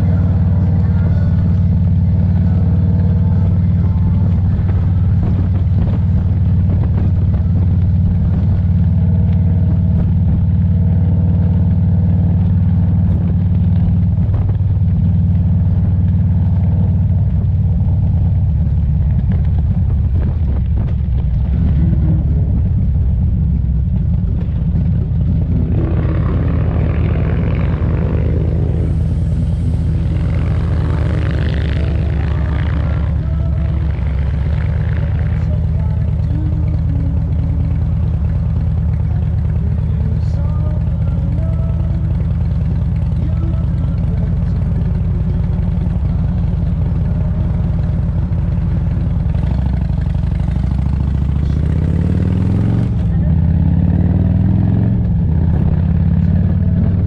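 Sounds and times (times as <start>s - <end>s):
motorcycle engine rumble: 0.0s - 57.0s
wind and road noise: 0.0s - 57.0s.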